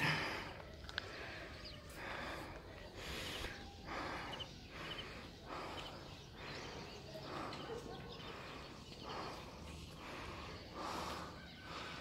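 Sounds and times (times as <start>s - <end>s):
faint bird chirps: 0.0s - 12.0s
person breathing heavily: 0.0s - 12.0s.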